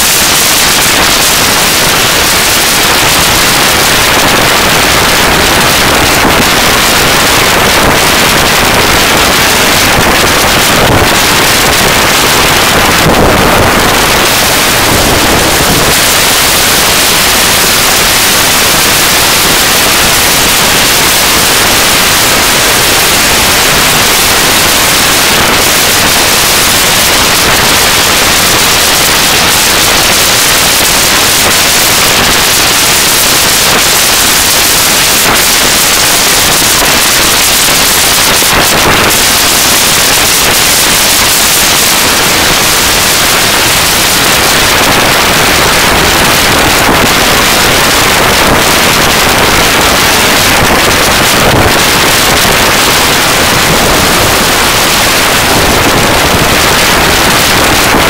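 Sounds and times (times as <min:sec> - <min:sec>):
loud steady hiss: 0:00.0 - 0:58.0.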